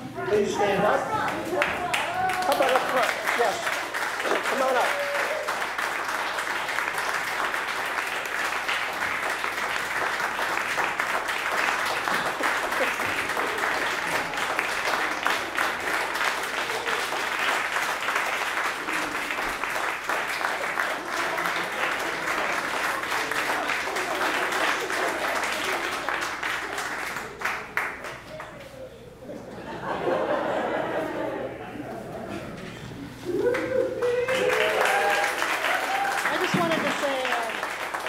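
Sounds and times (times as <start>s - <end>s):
audience applauding: 1.2s - 28.6s, 33.3s - 38.0s.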